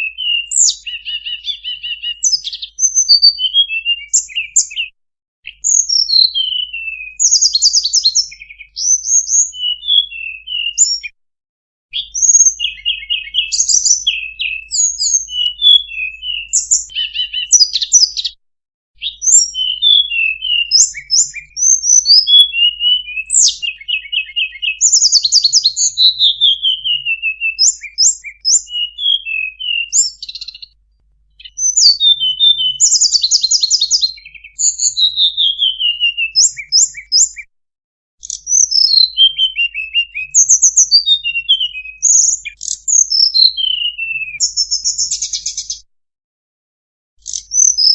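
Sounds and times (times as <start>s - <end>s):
bird chips and trills: 0.0s - 4.8s, 5.5s - 11.1s, 12.0s - 18.4s, 19.0s - 30.7s, 31.4s - 37.5s, 38.2s - 45.8s, 47.2s - 47.9s.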